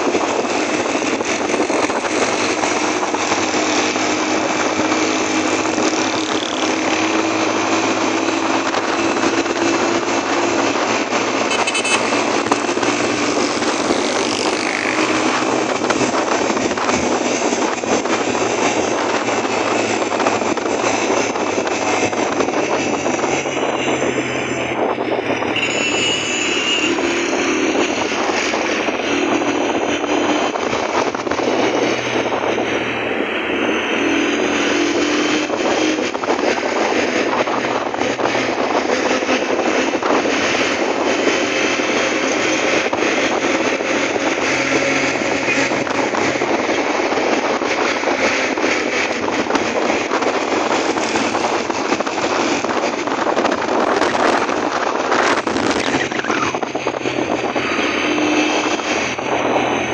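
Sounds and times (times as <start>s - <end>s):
motorcycle engine and wind rush: 0.0s - 59.9s
traffic: 0.0s - 59.9s.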